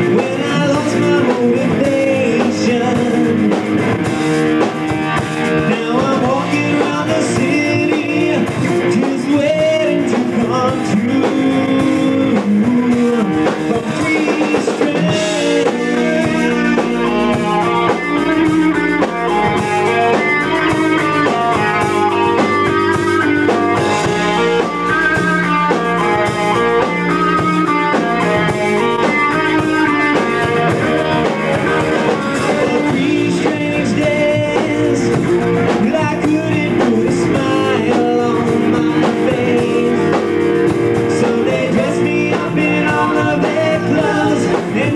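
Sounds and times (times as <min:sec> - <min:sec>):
drum kit beat: 0:00.0 - 0:44.9
electric guitars: 0:00.0 - 0:44.9.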